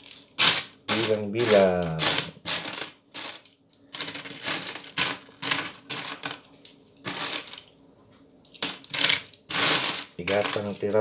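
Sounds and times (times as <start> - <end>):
coins clinking in plastic bowl: 0.0 - 7.7, 8.5 - 11.0.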